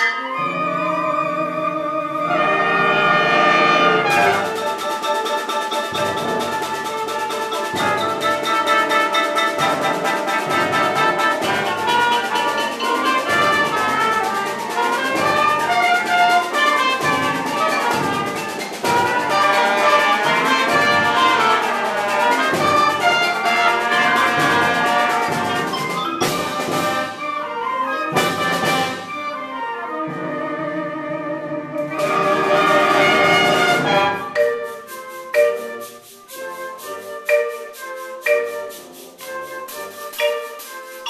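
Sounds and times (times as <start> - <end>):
orchestral music with brass: 0.0 - 41.0.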